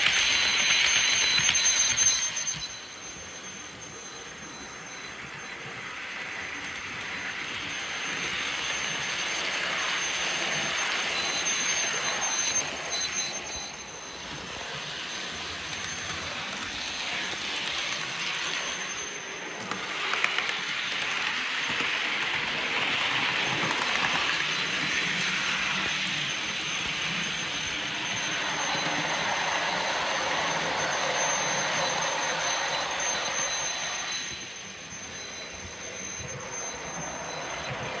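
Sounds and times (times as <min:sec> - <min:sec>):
model train wheels rushing: 0:00.0 - 0:38.0.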